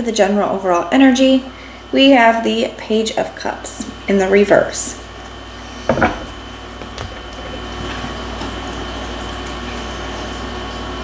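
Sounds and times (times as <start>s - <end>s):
mechanical hum with high whine: 0.0s - 11.0s.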